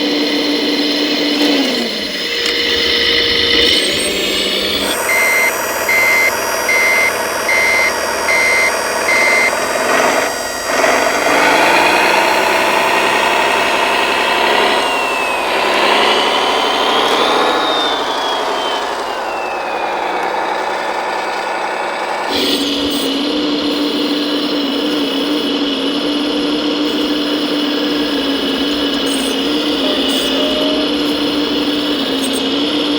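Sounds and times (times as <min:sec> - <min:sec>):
engine running: 0:00.0 - 0:32.9
motor whine: 0:00.0 - 0:32.9
reversing beeper: 0:00.8 - 0:32.9.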